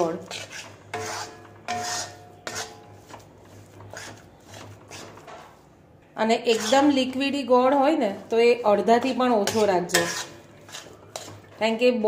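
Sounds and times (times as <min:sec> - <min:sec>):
metal spatula scraping iron pan: 0:00.0 - 0:11.8.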